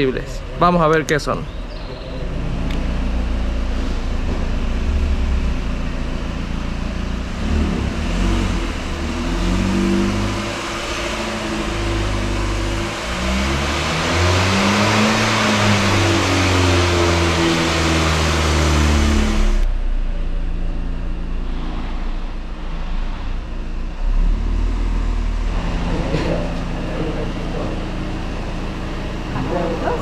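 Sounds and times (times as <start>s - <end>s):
engine revving: 0.0s - 30.0s
low hum: 0.0s - 30.0s.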